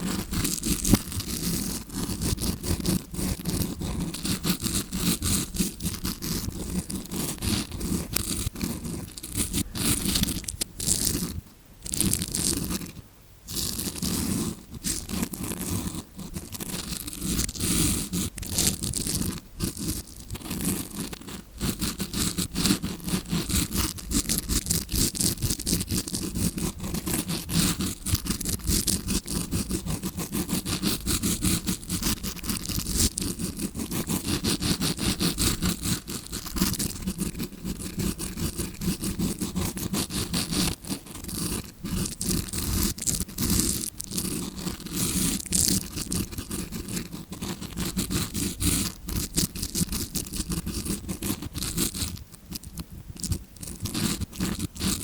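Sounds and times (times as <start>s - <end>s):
brush scraping microphone: 0.0s - 55.0s.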